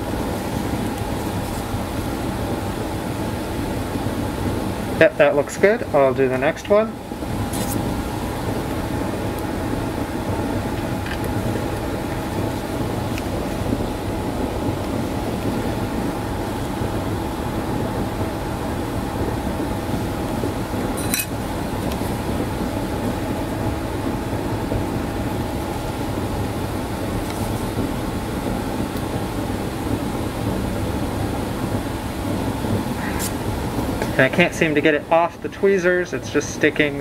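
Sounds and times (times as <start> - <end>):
background hum and hiss: 0.0 - 37.0.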